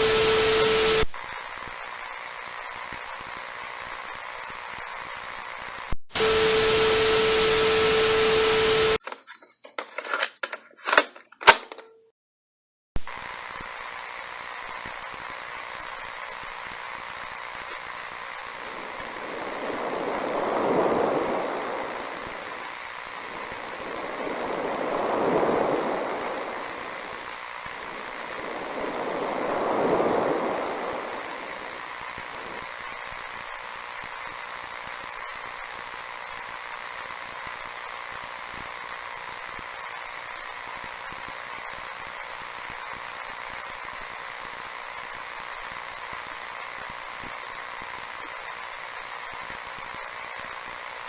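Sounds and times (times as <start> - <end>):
rushing static hiss: 0.0 - 9.0, 13.0 - 51.0
faint scattered crackles: 0.0 - 10.7, 13.0 - 51.0.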